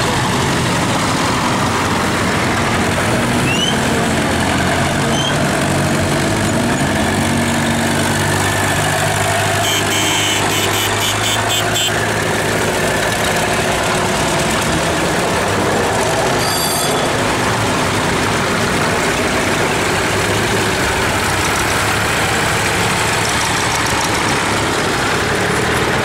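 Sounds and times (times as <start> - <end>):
tractor engines running: 0.0 - 26.0.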